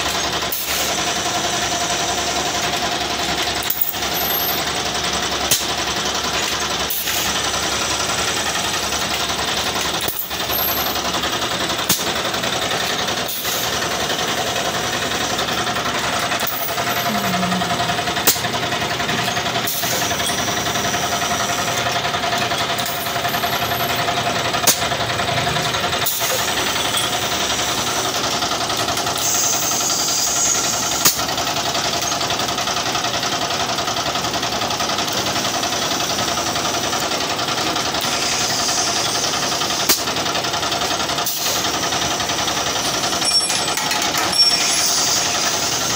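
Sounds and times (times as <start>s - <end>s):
machine clattering and humming: 0.0s - 45.9s
sharp machine clack: 0.0s - 45.9s.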